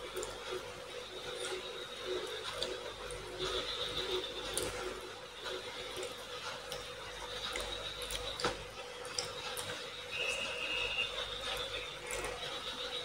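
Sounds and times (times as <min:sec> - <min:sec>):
eating clicks and squishes: 0:00.0 - 0:13.0.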